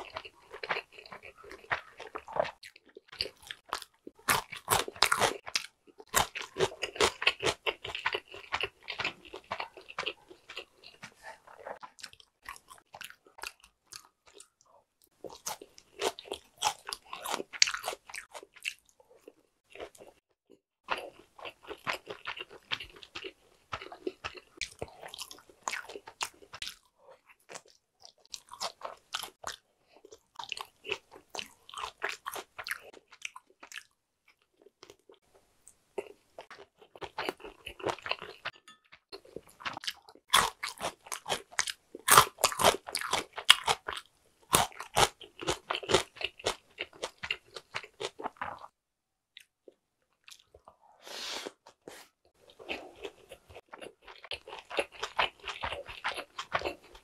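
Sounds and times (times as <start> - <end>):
person chewing: 0.0 - 48.7, 49.3 - 57.0.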